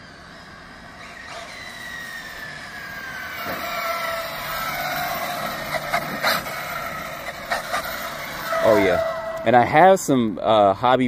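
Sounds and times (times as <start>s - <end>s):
electric motor and gear whine: 0.0s - 10.0s.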